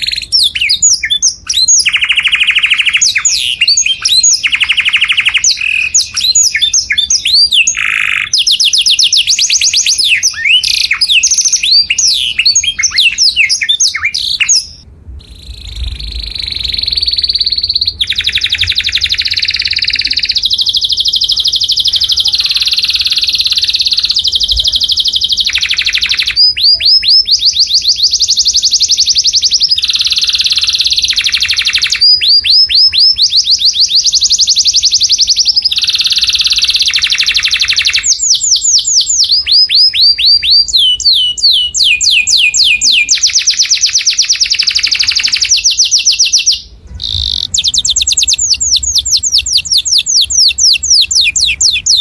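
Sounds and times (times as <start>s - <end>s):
canary singing: 0.0s - 52.0s.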